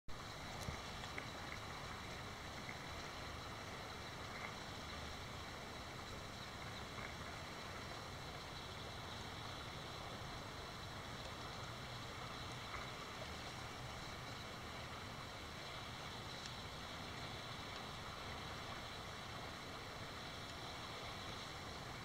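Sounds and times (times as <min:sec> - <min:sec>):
river water running: 0:00.1 - 0:22.0.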